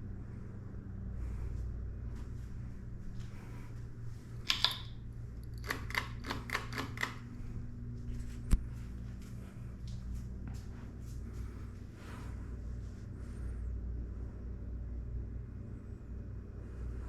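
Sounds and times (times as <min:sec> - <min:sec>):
ceiling fan motor hum: 0:00.0 - 0:17.0.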